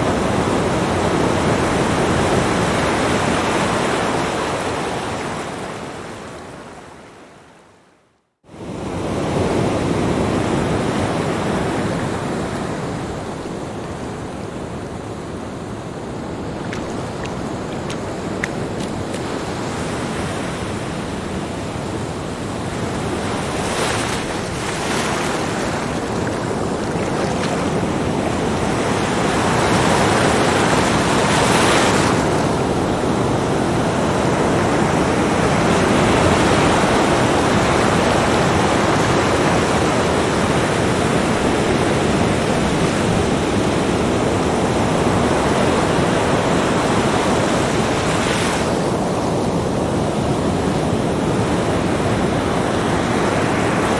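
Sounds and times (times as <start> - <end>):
waves washing on sand: 8.5 - 53.9.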